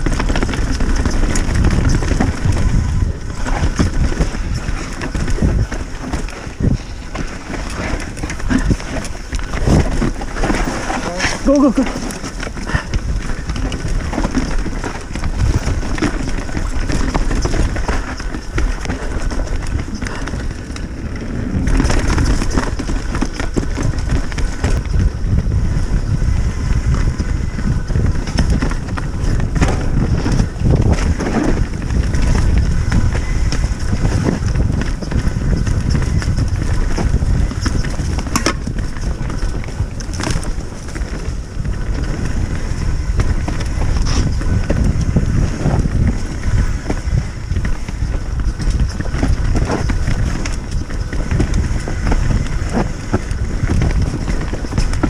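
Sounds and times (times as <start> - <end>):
bike rattling and clattering: 0.0 - 55.0
wind rumbling on microphone: 0.0 - 55.0.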